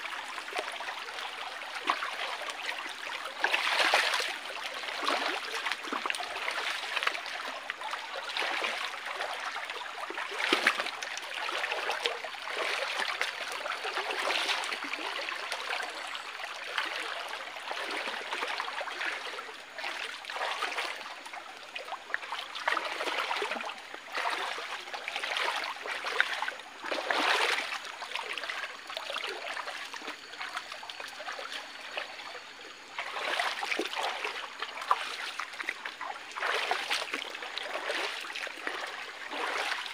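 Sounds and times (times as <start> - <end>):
people wading and splashing: 0.0 - 39.9
stream trickling over rocks: 0.0 - 39.9.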